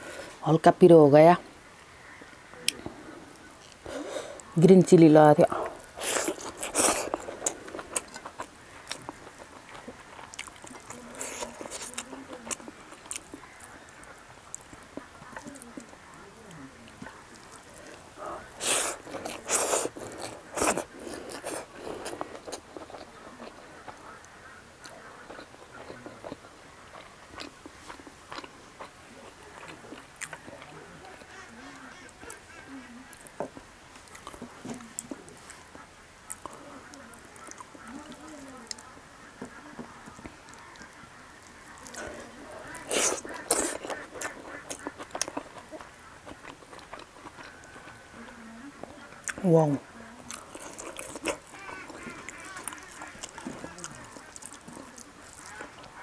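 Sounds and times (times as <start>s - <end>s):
person chewing food: 5.4s - 49.5s, 50.2s - 56.0s.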